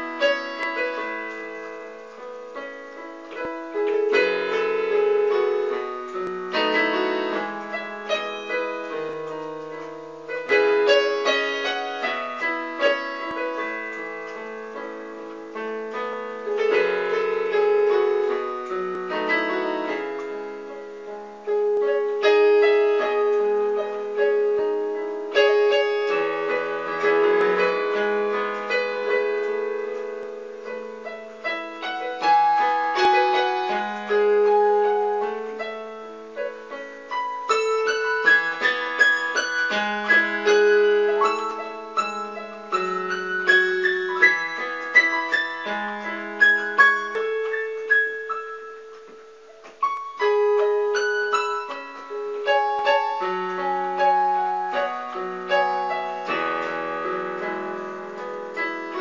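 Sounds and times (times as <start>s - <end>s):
electronic keyboard piano ballad: 0.0s - 59.0s.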